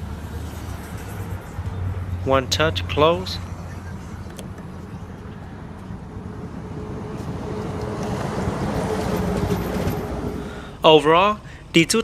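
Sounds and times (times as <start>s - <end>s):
vehicle rumbling: 0.0s - 11.8s.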